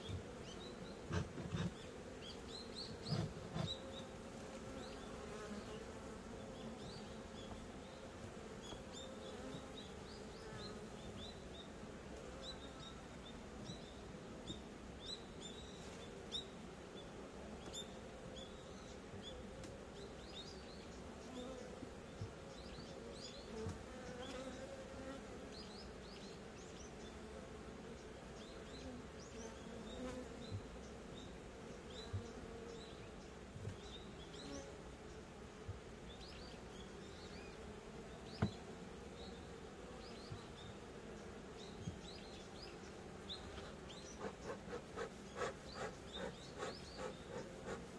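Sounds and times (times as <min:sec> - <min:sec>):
honeybees buzzing: 0:00.0 - 0:47.9.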